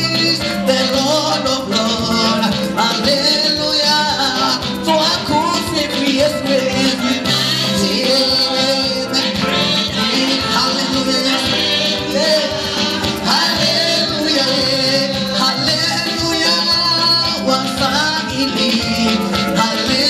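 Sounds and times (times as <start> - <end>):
group of singers singing: 0.0 - 20.0
instrumental accompaniment with beat: 0.0 - 20.0.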